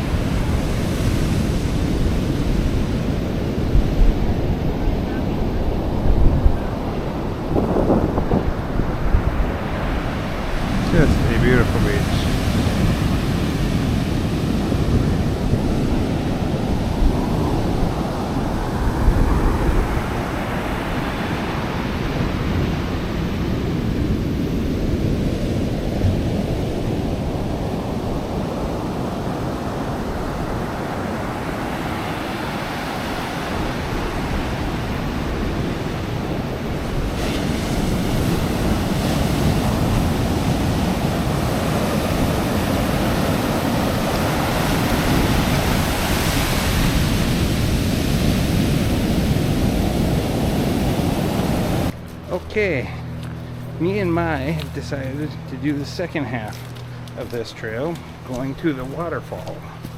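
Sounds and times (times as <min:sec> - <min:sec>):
wind on the microphone: 0:00.0 - 0:52.0
ocean surf on a beach: 0:00.0 - 0:59.8.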